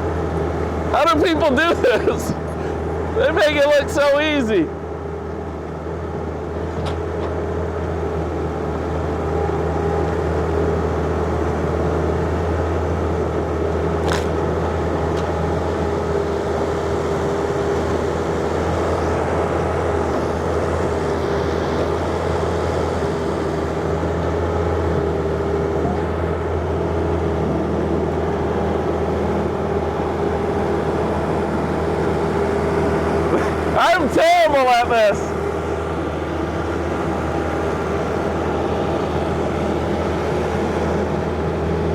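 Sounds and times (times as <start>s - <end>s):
excavator diesel engine: 0.0s - 41.9s.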